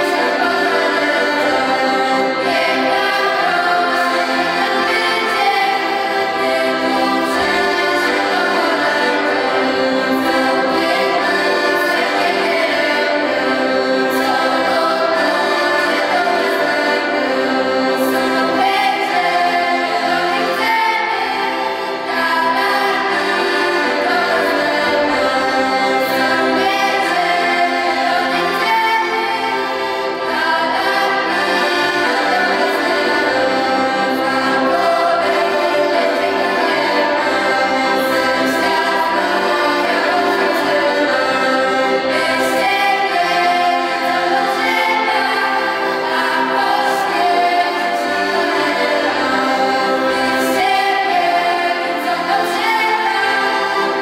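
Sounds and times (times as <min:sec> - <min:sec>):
children singing together: 0:00.0 - 0:54.0
piano accordion: 0:00.0 - 0:54.0.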